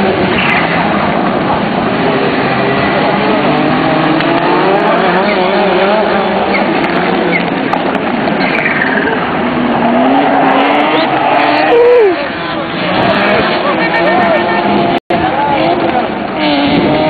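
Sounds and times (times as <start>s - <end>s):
racing car engines revving: 0.0s - 17.0s.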